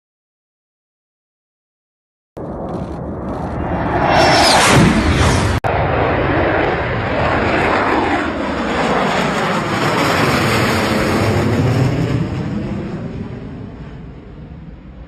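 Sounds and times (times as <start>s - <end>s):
fighter jet roaring past: 2.4s - 15.0s.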